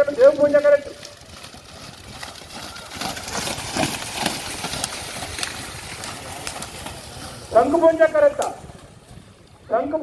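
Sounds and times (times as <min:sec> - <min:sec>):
buffaloes splashing through water: 0:00.0 - 0:09.7.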